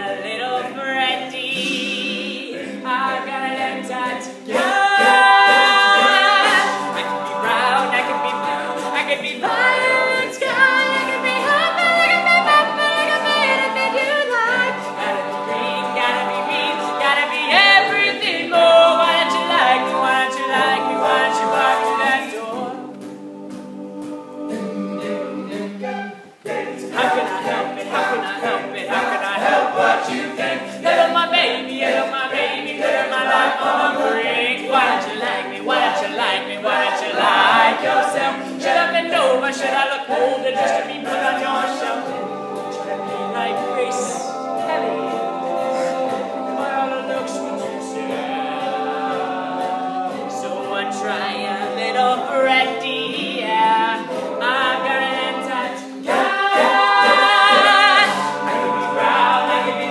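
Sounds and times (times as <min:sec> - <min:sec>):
men's a cappella group singing: 0:00.0 - 0:59.9.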